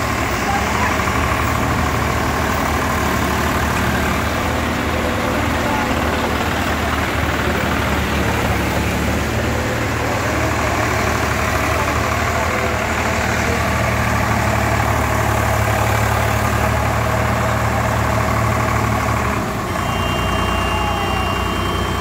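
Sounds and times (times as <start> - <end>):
tractor engines running: 0.0 - 22.0.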